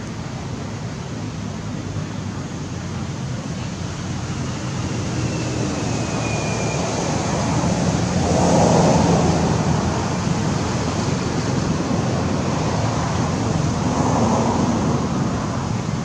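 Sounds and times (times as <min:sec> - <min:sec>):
low rumble of outdoor background noise: 0:00.0 - 0:16.0.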